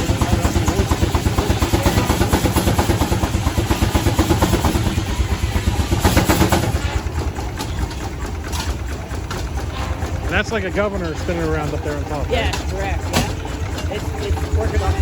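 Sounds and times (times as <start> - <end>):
steam engine beating: 0.0 - 15.0.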